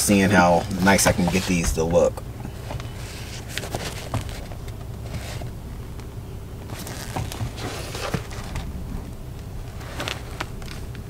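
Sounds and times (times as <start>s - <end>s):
low hum inside car: 0.0s - 11.0s
sneaker rustling and tapping: 0.1s - 11.0s.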